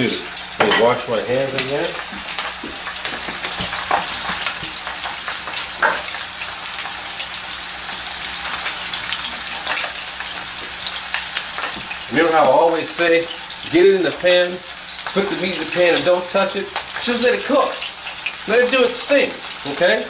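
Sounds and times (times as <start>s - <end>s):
chicken sizzling in hot oil: 0.0s - 20.0s
oil crackling and popping: 1.3s - 20.0s.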